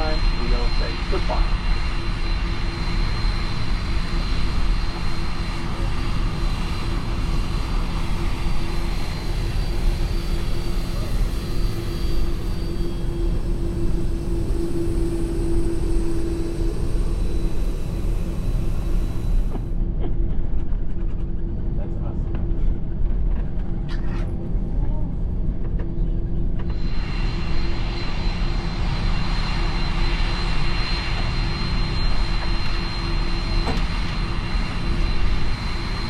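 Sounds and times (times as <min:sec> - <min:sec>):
thin high whine: 0:00.0 - 0:19.7, 0:26.6 - 0:36.0
jet engines running: 0:00.0 - 0:36.0.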